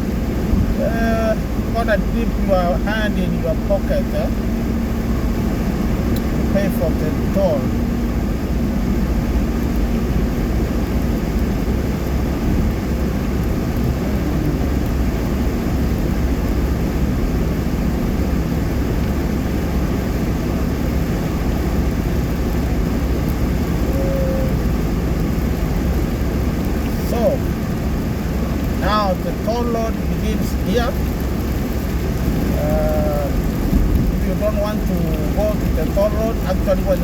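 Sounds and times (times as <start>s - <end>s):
car interior road rumble: 0.0s - 37.0s.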